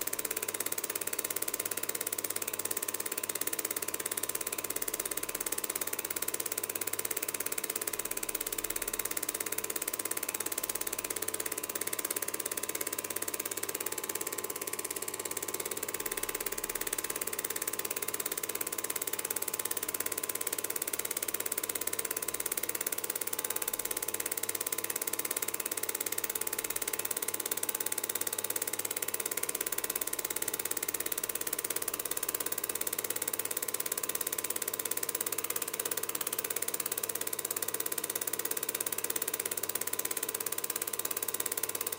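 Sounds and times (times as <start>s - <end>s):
film projector whirring: 0.0s - 41.9s.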